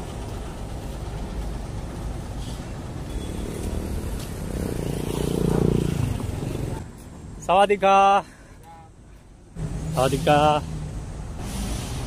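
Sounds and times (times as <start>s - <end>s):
vehicle engine rumbling: 0.0s - 7.5s, 8.2s - 12.0s.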